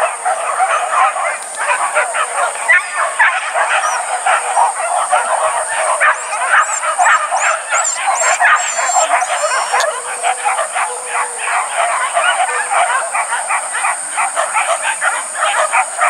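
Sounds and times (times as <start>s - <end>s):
dogs barking and yelping: 0.0s - 16.0s.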